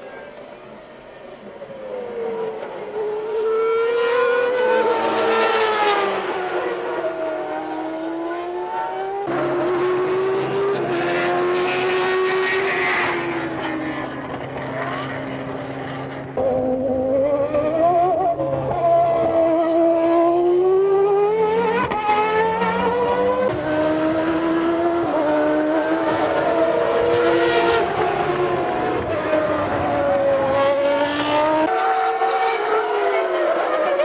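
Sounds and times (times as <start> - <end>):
racing car engines at high revs: 1.6 - 34.0.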